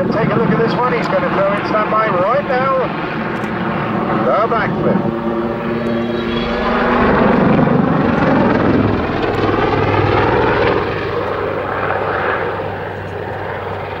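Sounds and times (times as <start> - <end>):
helicopter rotor and engines: 0.0 - 14.0.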